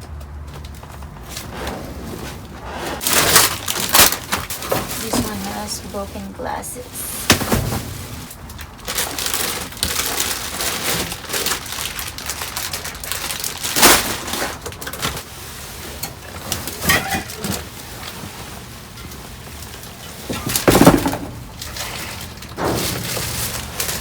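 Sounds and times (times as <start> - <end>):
plastic bags rustling: 0.2 - 24.0
dumpster contents crashing: 1.0 - 24.0.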